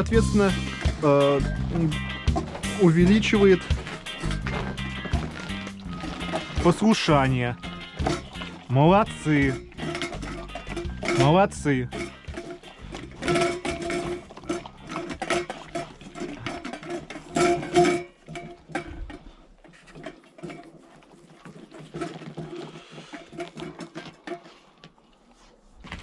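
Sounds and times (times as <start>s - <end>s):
metal bowls clinking and rattling: 0.0s - 24.9s
dogs eating and licking: 0.0s - 26.0s.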